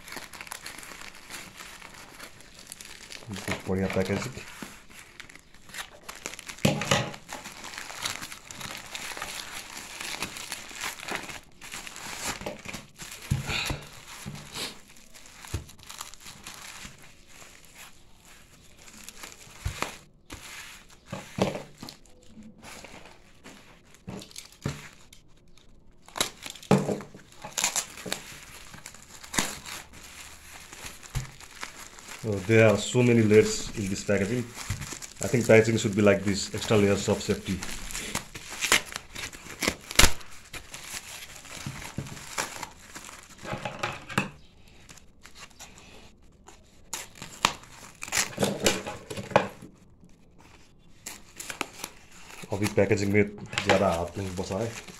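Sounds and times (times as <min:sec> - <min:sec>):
plastic crinkling and rustling: 0:00.0 - 0:54.9
plastic tearing: 0:00.0 - 0:54.9.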